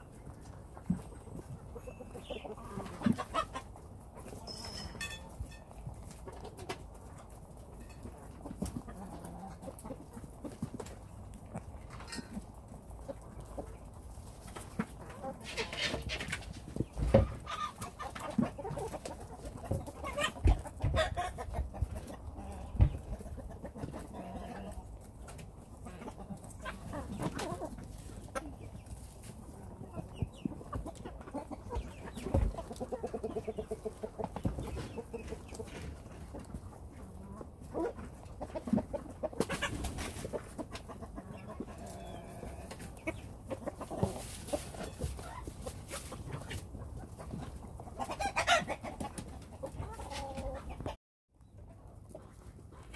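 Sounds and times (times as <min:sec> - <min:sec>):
hens clucking: 0:00.0 - 0:52.9.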